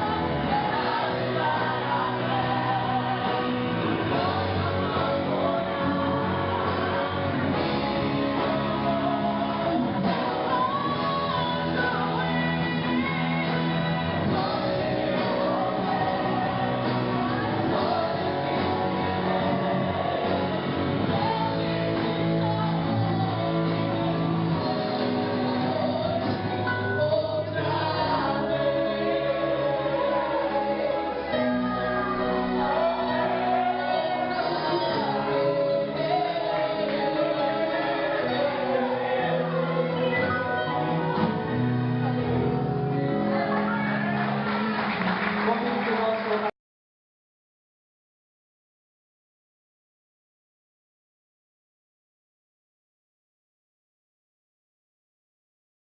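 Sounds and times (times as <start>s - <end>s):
backing band playing: 0.0s - 46.5s
gospel singers: 0.0s - 46.5s.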